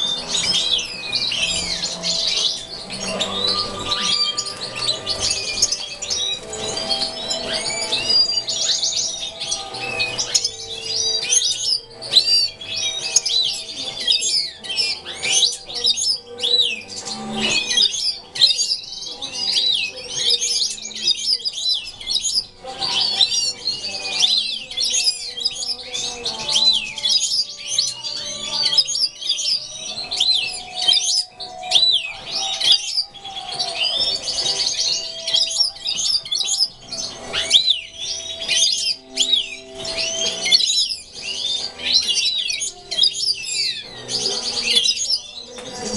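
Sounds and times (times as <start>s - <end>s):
finches chirping and twittering: 0.0s - 45.9s.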